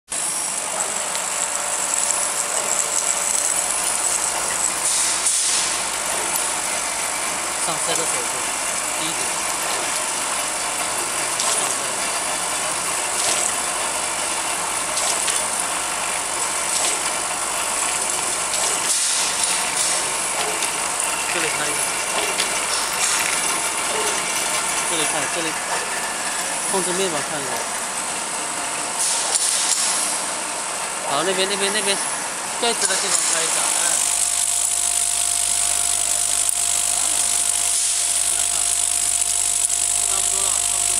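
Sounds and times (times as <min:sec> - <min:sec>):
machine running steadily: 0:00.1 - 0:40.9.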